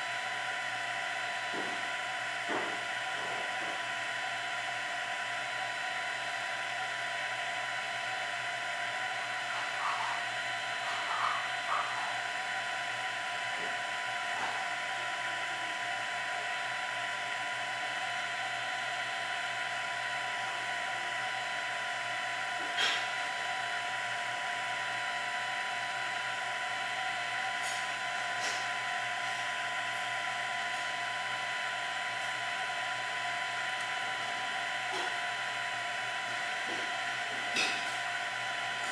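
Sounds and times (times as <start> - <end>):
printer mechanical whine: 0.0 - 38.9.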